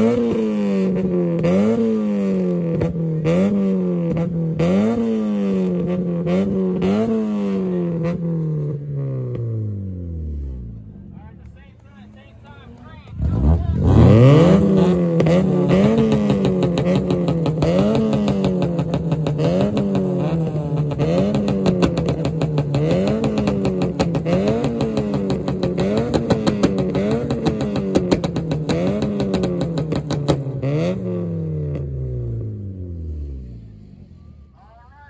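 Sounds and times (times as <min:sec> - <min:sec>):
car engine revving high: 0:00.0 - 0:11.2, 0:12.0 - 0:34.0
exhaust crackle: 0:00.0 - 0:34.1.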